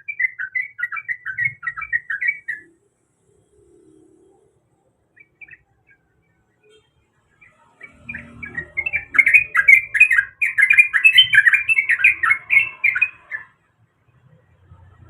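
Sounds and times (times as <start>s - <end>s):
bird singing bubbly chatter: 0.0s - 6.4s, 7.4s - 13.6s.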